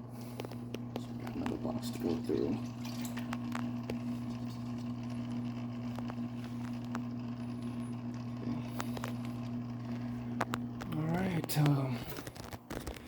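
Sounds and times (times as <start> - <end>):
low electrical hum: 0.0 - 13.0
faint clicks and knocks: 0.2 - 2.1, 3.0 - 13.0.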